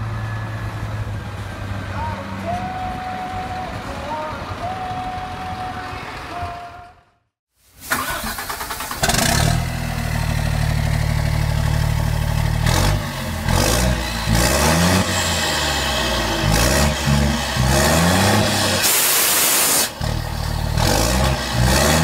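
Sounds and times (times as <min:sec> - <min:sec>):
truck engine starting and revving: 0:00.0 - 0:07.0, 0:07.9 - 0:22.0.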